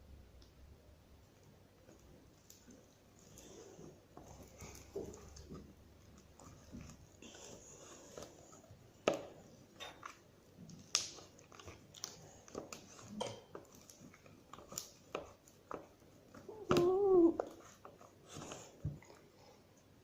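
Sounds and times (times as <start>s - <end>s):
slime squelching by hand: 1.4s - 19.6s.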